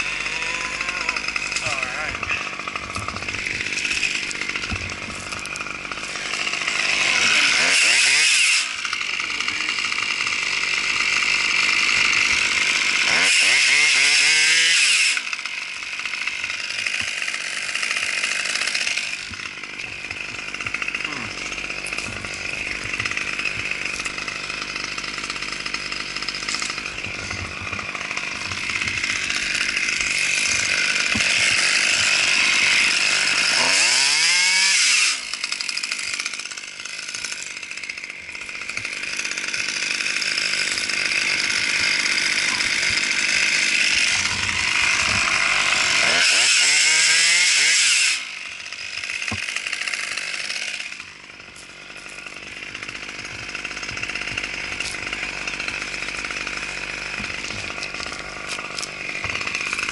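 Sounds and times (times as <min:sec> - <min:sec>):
chainsaw cutting at full throttle: 0:00.0 - 0:59.9.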